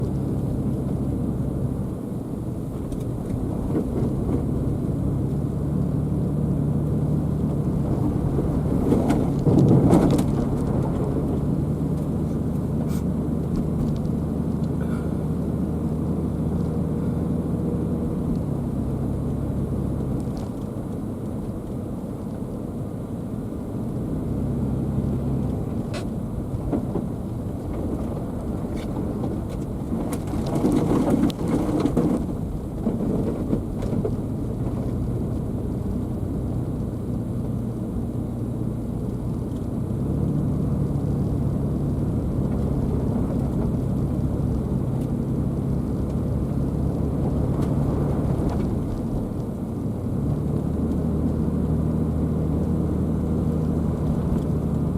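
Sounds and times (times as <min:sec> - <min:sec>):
car engine hum: 0:00.0 - 0:54.9
road rumble: 0:00.0 - 0:54.9.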